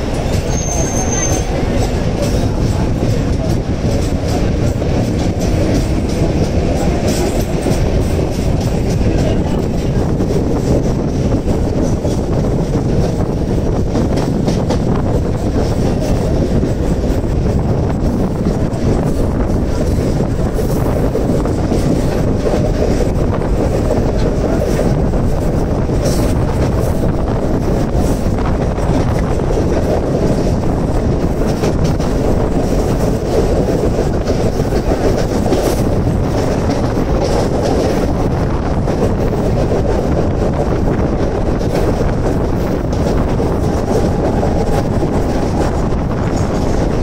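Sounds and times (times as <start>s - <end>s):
train wheels rumbling on rails: 0.0s - 47.0s
wind buffeting microphone: 0.0s - 47.0s.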